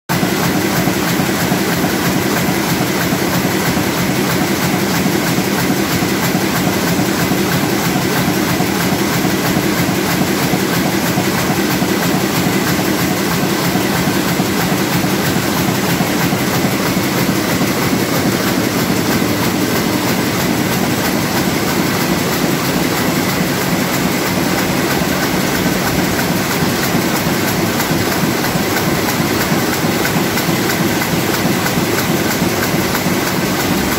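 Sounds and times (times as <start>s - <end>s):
printing press clattering: 0.1s - 33.9s.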